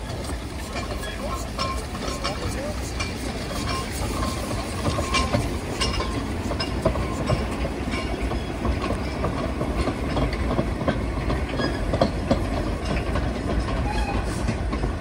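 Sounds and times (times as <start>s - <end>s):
train low rumble: 0.0s - 15.0s
wagon wheels clanking over track: 0.0s - 15.0s.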